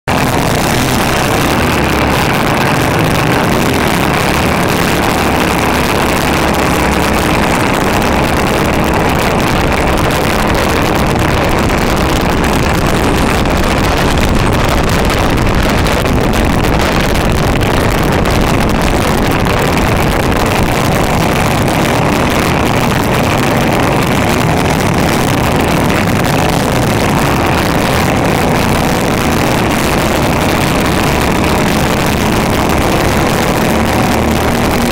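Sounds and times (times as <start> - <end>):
go-kart engine running hard: 0.0 - 34.9
wind rushing over microphone: 0.0 - 34.9.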